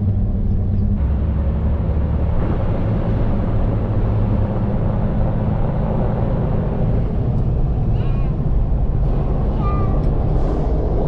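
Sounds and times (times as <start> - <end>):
car engine: 0.0 - 11.0
road rumble: 0.0 - 11.0.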